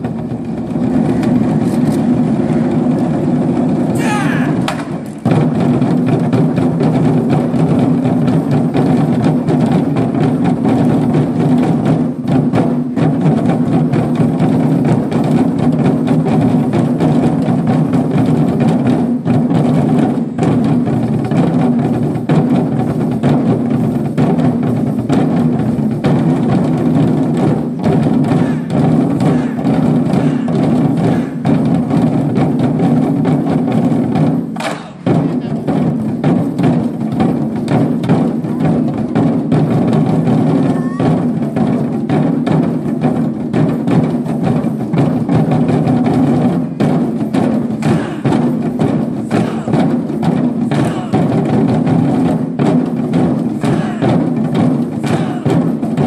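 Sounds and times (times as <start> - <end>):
large drums beating: 0.0 - 56.0.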